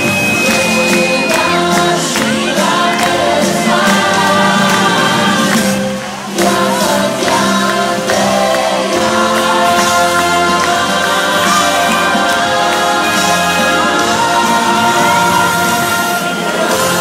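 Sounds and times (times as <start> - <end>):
group of singers singing: 0.0 - 17.0
live pop band: 0.0 - 17.0.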